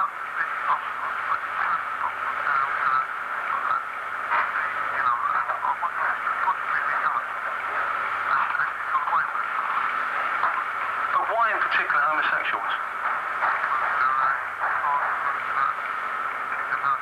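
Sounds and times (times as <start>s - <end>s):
muffled voice over telephone: 0.0s - 17.0s
steady line hiss: 0.0s - 17.0s.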